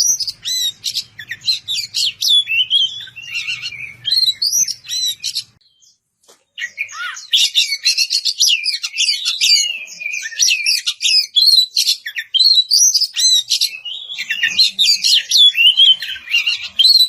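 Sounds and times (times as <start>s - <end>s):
bird singing whistles and trills: 0.0s - 6.0s, 6.6s - 17.0s.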